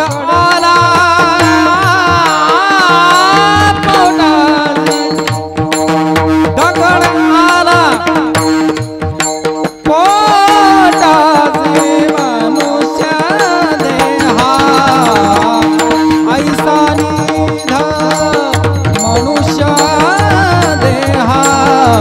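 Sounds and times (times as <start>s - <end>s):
man singing: 0.0s - 22.0s
tabla: 0.0s - 22.0s.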